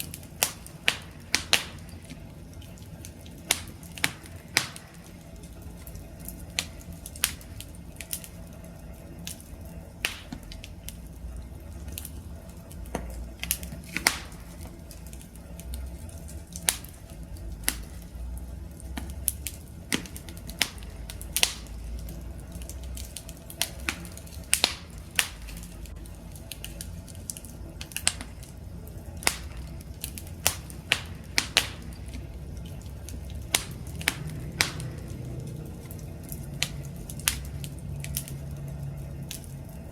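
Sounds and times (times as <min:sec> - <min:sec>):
campfire crackling: 0:00.0 - 0:39.9
fire pops: 0:00.0 - 0:39.9
low rumble of flames: 0:00.0 - 0:39.9.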